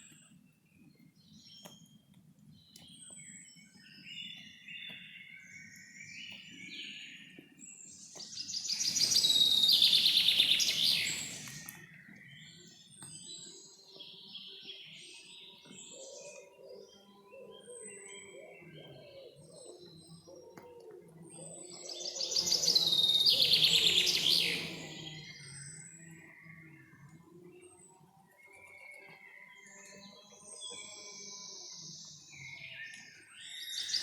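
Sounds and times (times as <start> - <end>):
birds singing and calling: 0.0 - 34.0
loud trilled bird song: 2.6 - 20.4, 21.4 - 34.0.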